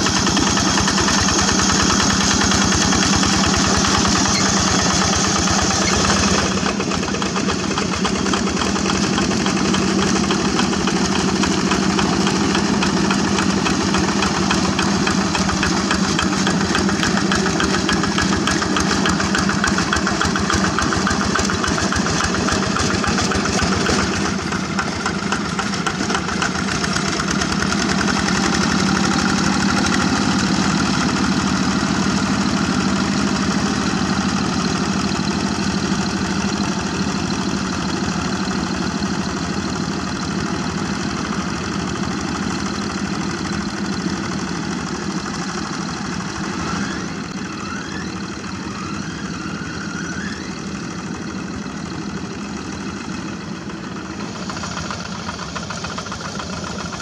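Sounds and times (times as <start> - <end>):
diesel engine knocking: 0.0 - 57.0.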